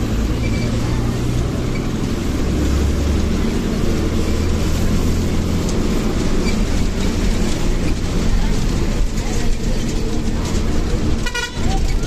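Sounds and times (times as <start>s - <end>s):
bus engine running: 0.0s - 12.0s
road noise: 0.0s - 12.0s.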